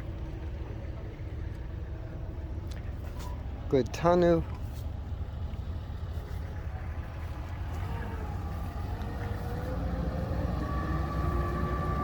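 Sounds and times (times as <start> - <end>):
outdoor low rumble: 0.0 - 12.0.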